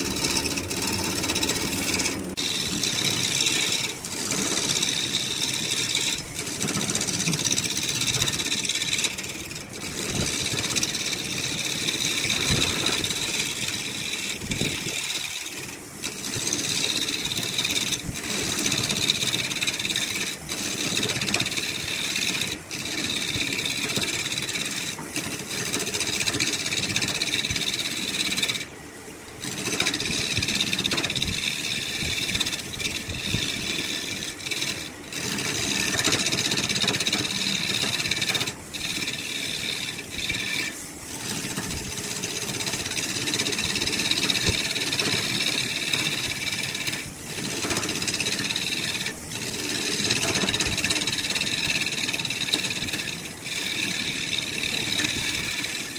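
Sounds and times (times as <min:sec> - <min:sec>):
turning tool scraping wood: 0:00.0 - 0:55.9
wood lathe hum: 0:00.0 - 0:55.9.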